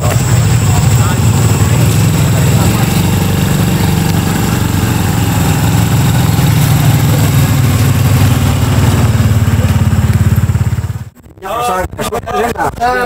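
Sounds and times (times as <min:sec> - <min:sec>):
engine running with low pulsing: 0:00.0 - 0:12.8.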